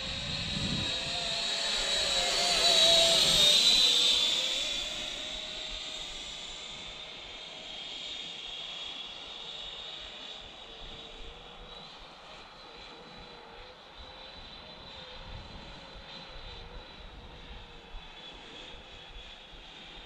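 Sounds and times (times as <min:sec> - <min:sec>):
model jet fans whining: 0:00.0 - 0:20.0.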